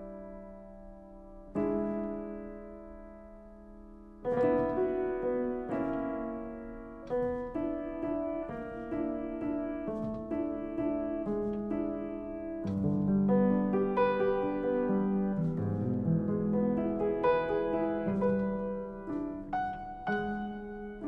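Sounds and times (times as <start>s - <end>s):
solo piano chords and melody: 0.0s - 21.0s.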